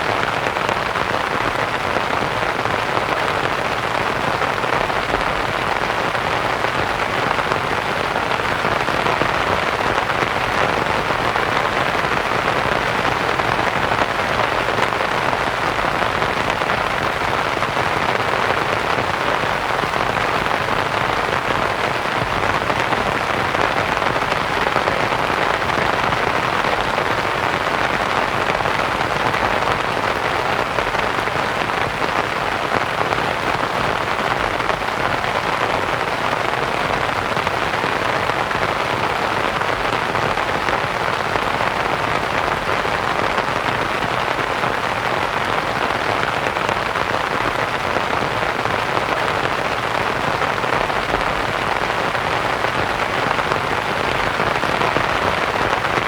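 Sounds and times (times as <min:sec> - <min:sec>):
rain on a canvas tent: 0:00.0 - 0:56.0.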